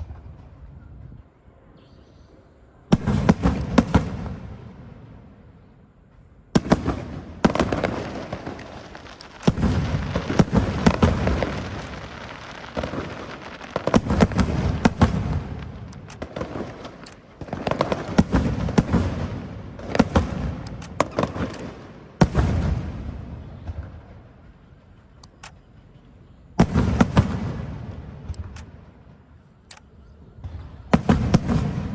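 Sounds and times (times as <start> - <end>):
fireworks booming and crackling: 0.0 - 1.2, 2.9 - 5.4, 6.1 - 26.0, 26.6 - 29.3, 30.4 - 31.9.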